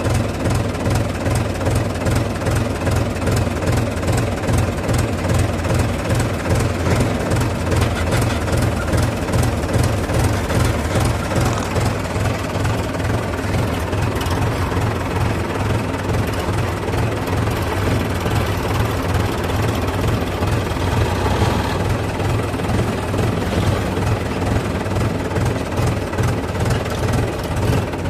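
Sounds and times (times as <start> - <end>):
heavy diesel engine rumbling: 0.0 - 28.0.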